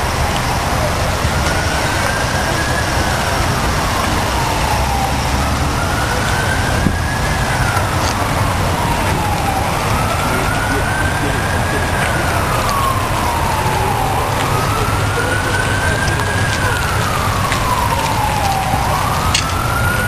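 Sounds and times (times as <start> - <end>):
emergency siren wailing: 0.0 - 20.0
traffic rumble: 0.0 - 20.0.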